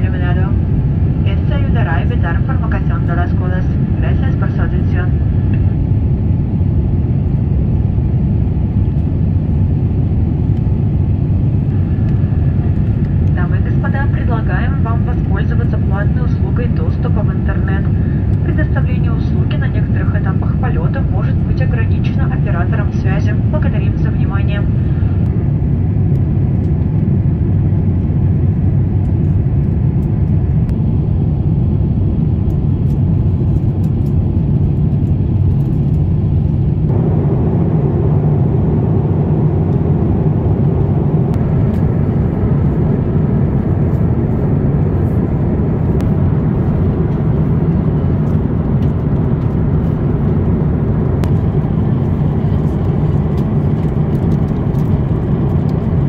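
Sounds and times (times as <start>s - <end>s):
airliner cabin rumble and rush: 0.0s - 56.0s.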